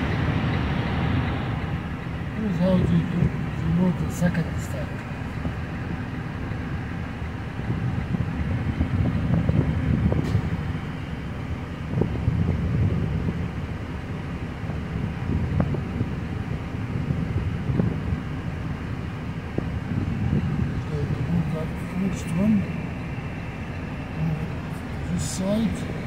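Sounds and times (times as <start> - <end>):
crane rumbling: 0.0 - 26.0
wind buffeting microphone: 0.0 - 26.0.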